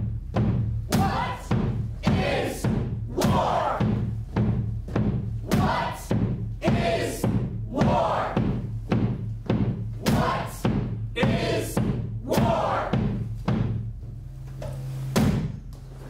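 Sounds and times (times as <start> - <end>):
heavy thumps beat: 0.0 - 16.0.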